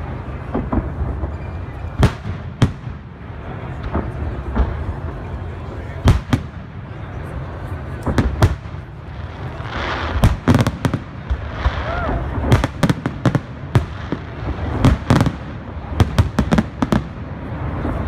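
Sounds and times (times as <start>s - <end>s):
fireworks bangs and cracks: 0.0s - 18.0s
onlookers' voices: 0.0s - 18.0s.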